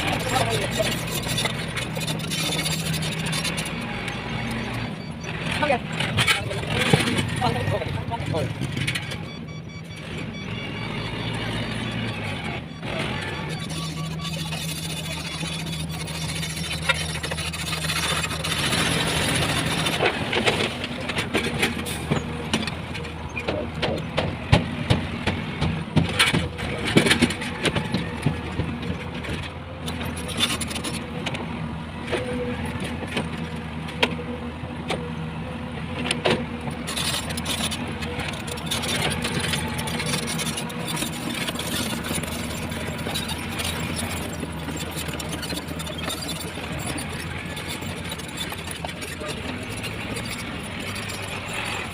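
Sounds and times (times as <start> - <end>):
heavy diesel machinery running: 0.0 - 51.9.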